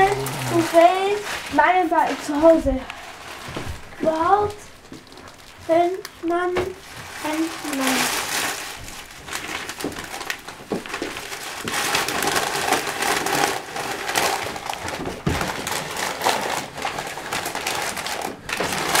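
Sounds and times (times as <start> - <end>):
wrapping paper tearing and crumpling: 0.0 - 19.0.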